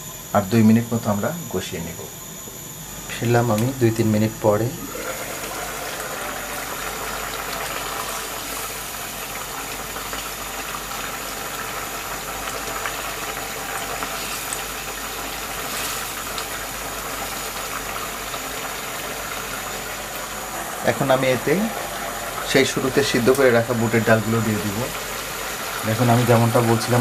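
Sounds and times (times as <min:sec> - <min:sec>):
steady hiss: 0:00.0 - 0:27.0
curry bubbling in a pot: 0:04.8 - 0:27.0.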